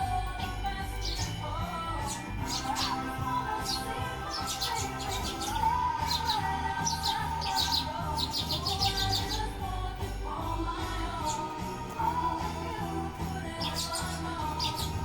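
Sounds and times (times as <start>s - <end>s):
christmas music with singing: 0.0s - 15.0s
sparrows chirping: 0.0s - 15.0s.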